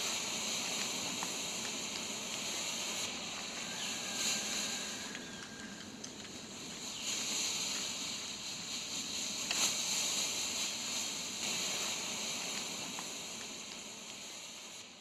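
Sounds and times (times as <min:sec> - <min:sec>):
smoke grenade hissing: 0:00.0 - 0:14.8.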